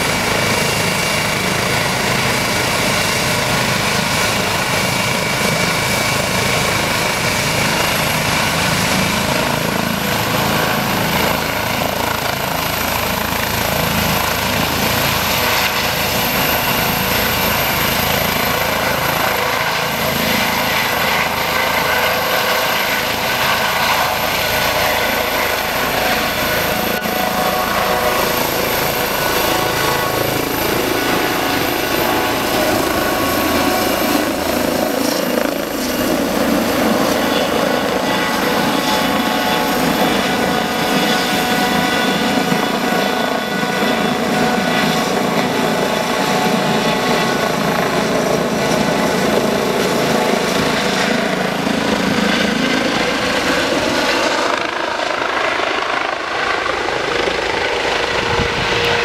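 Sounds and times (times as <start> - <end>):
helicopter engines and rotor: 0.0 - 59.0
high turbine whine: 0.0 - 59.0.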